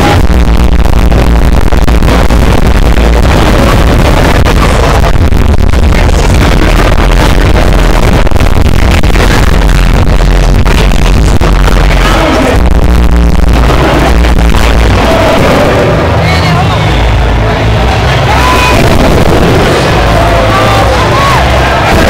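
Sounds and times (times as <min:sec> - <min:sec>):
loud party music with heavy bass: 0:00.0 - 0:22.0.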